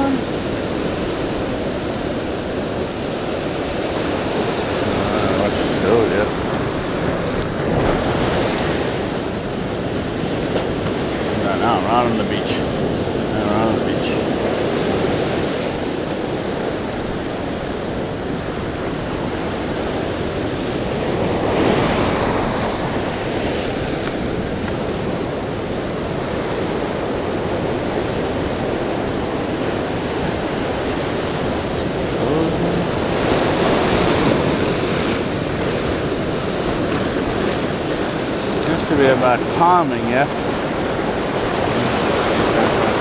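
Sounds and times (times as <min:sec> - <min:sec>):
surf breaking on rocks: 0:00.0 - 0:43.0
wind on microphone: 0:00.0 - 0:43.0.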